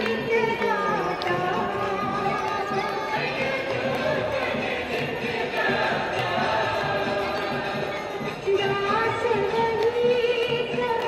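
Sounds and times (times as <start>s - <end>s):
musical accompaniment: 0.0s - 11.0s.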